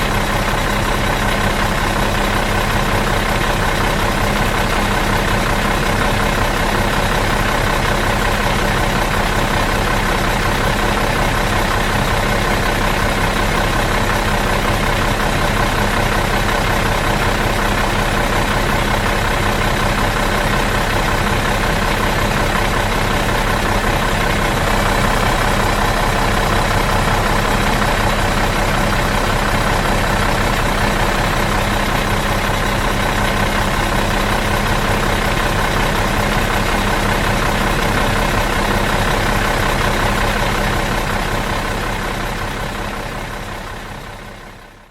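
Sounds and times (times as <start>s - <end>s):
bus diesel engine idling: 0.0s - 44.9s.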